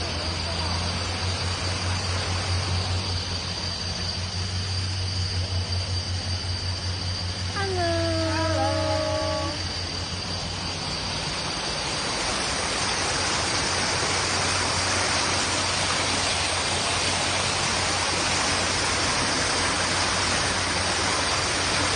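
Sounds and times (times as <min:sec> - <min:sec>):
faint high-pitched whine: 0:00.0 - 0:21.9
running water rushing: 0:00.0 - 0:21.9.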